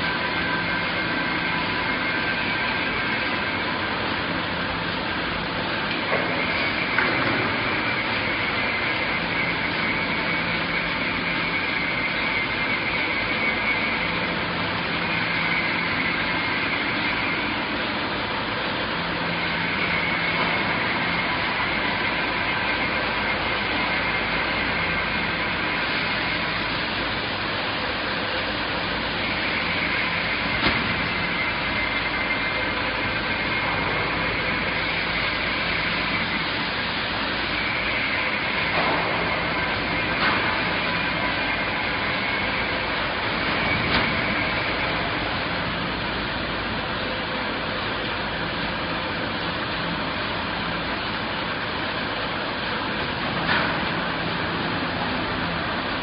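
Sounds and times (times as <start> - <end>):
high motor whine: 0.0 - 56.0
machinery running: 0.0 - 56.0.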